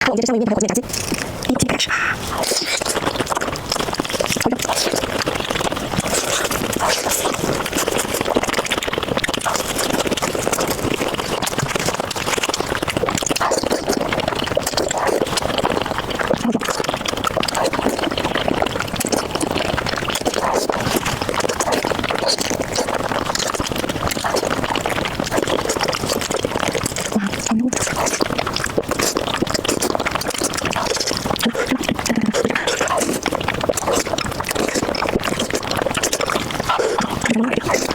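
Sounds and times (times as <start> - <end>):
slurping and chewing noodles: 0.0 - 37.9.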